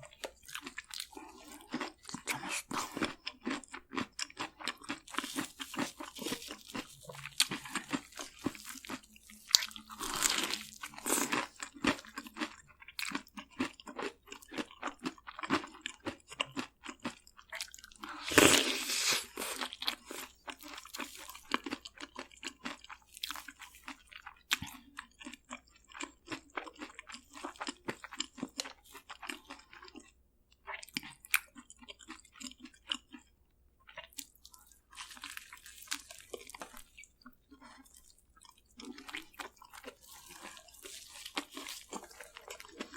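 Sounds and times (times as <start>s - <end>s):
person crunching crispy food: 0.0s - 30.1s, 33.9s - 42.9s.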